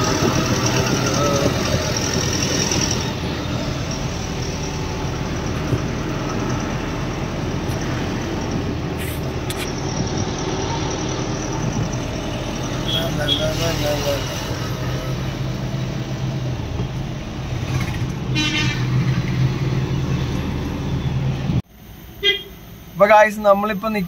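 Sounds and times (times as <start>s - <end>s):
diesel truck engine drone: 0.0s - 24.0s
road noise: 0.0s - 24.0s.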